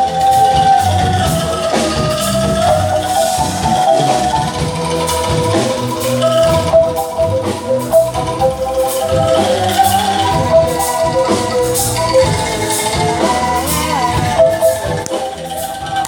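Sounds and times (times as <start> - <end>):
angklung melody: 0.0 - 16.0
low bass line: 0.0 - 16.0.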